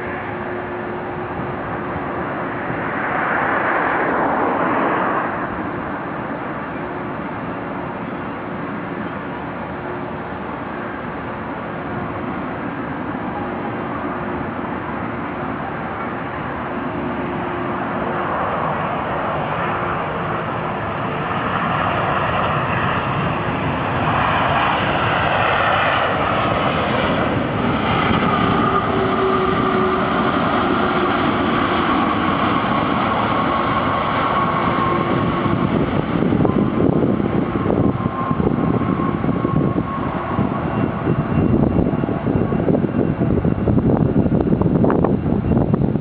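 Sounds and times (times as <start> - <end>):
jet engines whining and rushing: 0.0 - 46.0.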